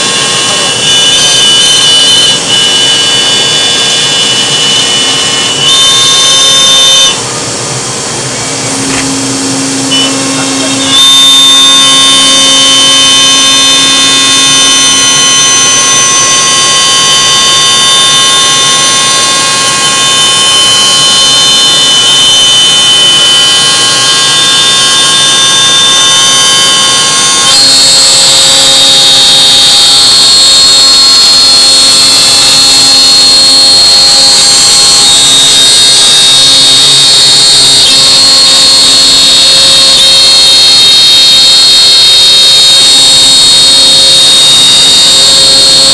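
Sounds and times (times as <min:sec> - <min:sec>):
cnc router spindle whine: 0:00.0 - 0:45.9.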